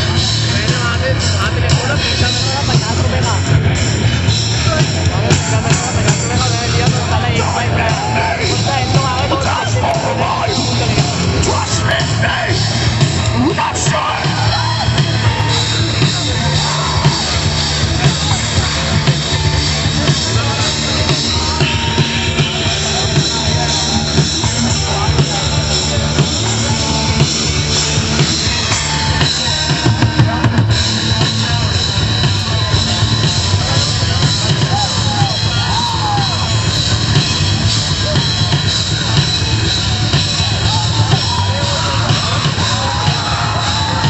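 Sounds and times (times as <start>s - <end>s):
drum kit beat: 0.0s - 44.0s
rock band playing live: 0.0s - 44.0s.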